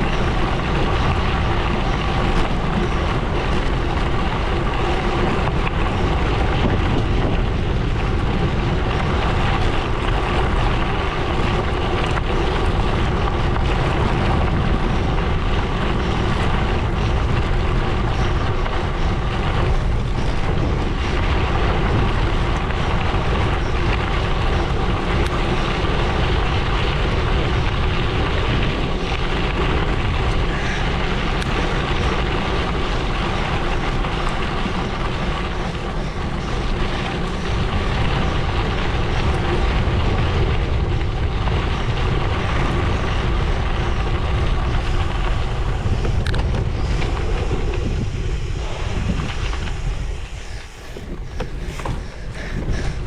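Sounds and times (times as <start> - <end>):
bike tyres rolling on gravel: 0.0 - 53.0
wind noise on microphone: 0.0 - 53.0.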